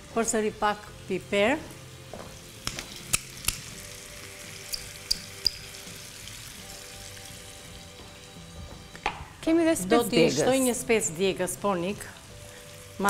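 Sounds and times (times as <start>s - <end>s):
vegetables sizzling in a pan: 0.0s - 8.5s, 9.5s - 13.0s.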